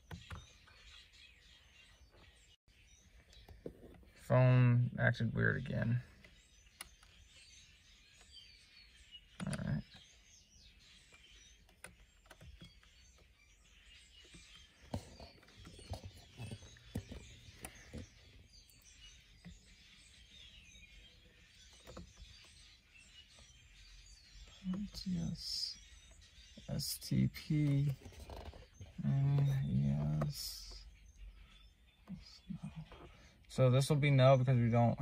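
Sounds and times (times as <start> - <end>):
faint high chirping: 0.0 - 35.0.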